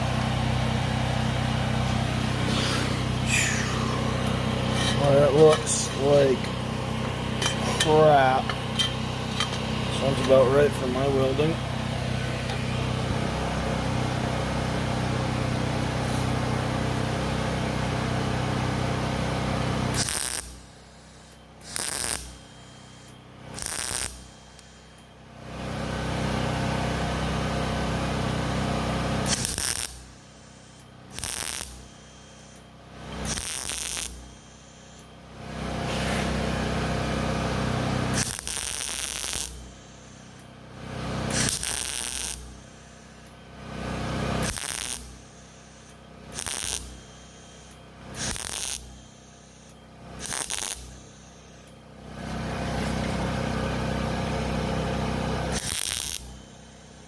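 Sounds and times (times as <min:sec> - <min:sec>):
arc welding buzzing crackle: 0:00.0 - 0:57.0.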